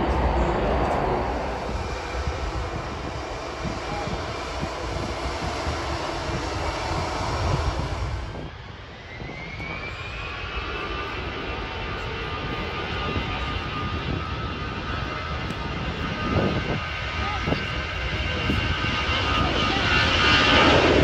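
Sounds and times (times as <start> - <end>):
jet engines taxiing rumble: 0.0 - 21.0.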